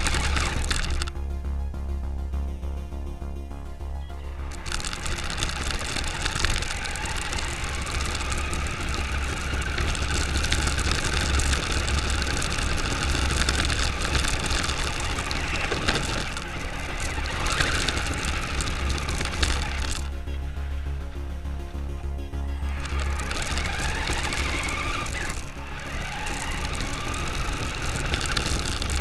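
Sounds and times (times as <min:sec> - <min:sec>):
toy car electric motor: 0:00.0 - 0:01.1, 0:04.1 - 0:21.2, 0:22.5 - 0:29.0
tyres crunching on gravel: 0:00.0 - 0:01.1, 0:04.4 - 0:20.3, 0:22.6 - 0:29.0
camera shaking rumble: 0:00.0 - 0:01.2, 0:04.2 - 0:21.9, 0:22.5 - 0:29.0.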